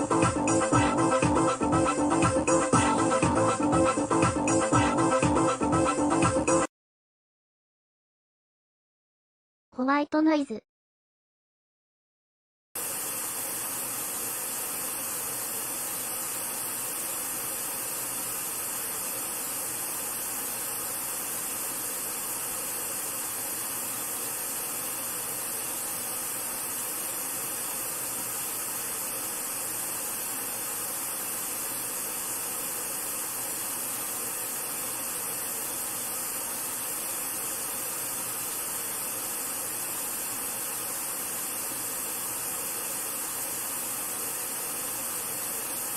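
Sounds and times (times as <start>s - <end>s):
white noise test signal: 0.0s - 6.7s, 12.8s - 45.9s.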